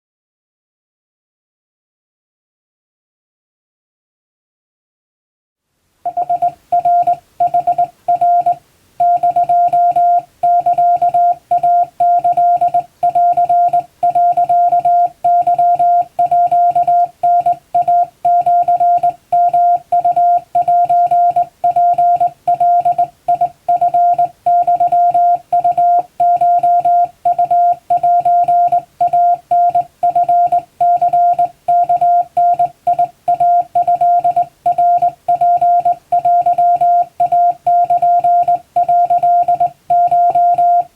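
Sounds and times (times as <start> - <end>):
morse code beeps: 6.1 - 40.9.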